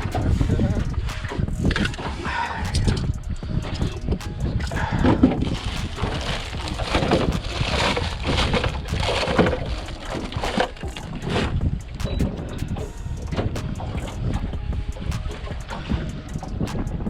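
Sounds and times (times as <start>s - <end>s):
water slapping against boat: 0.0s - 17.0s
wind buffeting microphone: 0.0s - 17.0s.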